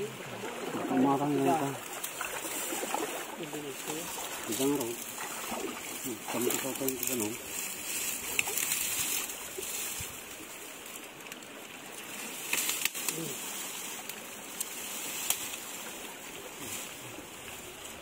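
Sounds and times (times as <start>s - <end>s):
knocks and splashes of wading: 0.0s - 18.0s
water running over stones: 0.0s - 18.0s.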